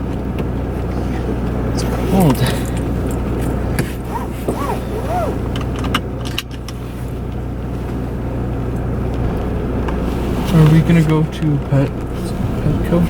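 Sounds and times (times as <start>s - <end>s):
car engine hum inside cabin: 0.0s - 13.0s.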